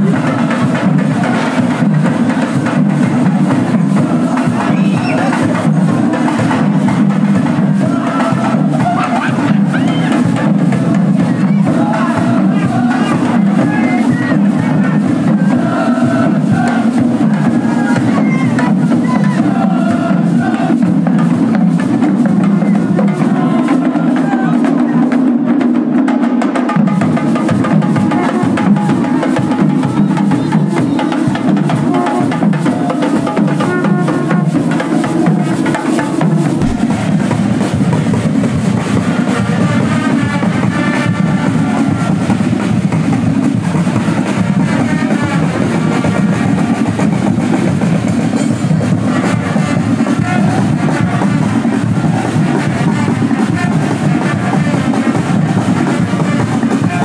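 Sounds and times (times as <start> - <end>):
maracas: 0.0 - 25.5, 26.1 - 57.0
hand drums beating: 0.0 - 57.0
voices singing: 0.0 - 57.0.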